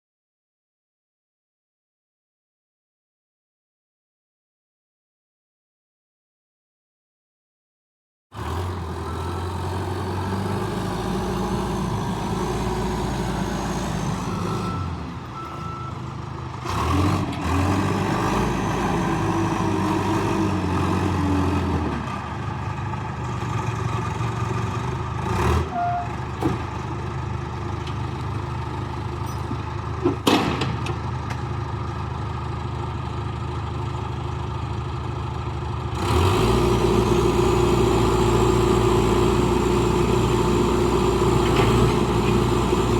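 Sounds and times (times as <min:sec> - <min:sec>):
diesel engine running: 0:08.4 - 0:42.9.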